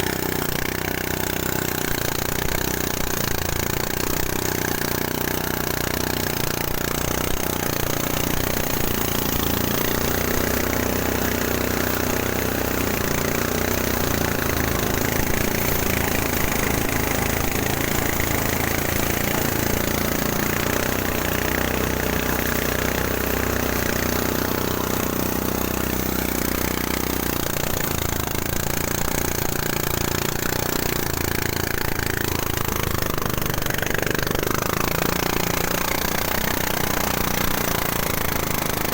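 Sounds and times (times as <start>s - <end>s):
threshing machine engine running: 0.0s - 38.9s.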